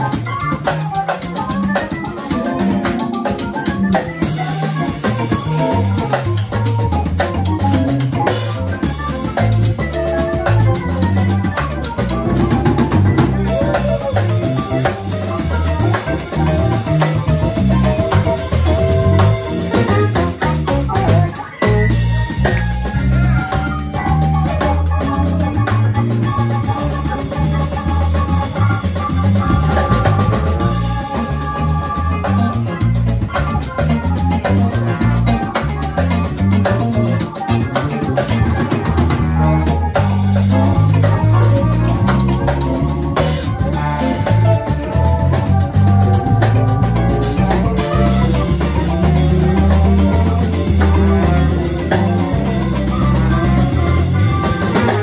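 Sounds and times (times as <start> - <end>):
live funk band playing: 0.0 - 55.0.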